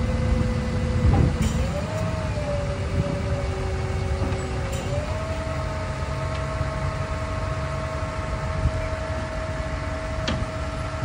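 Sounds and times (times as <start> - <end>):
diesel engine whine and rumble: 0.0 - 11.0.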